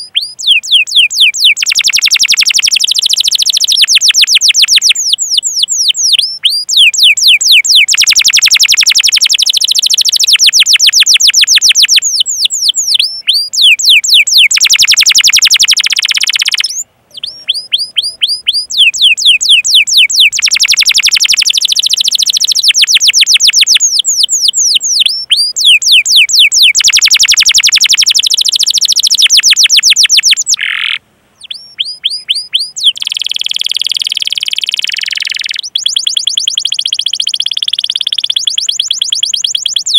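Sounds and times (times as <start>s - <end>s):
canary singing chirps: 0.0s - 39.9s.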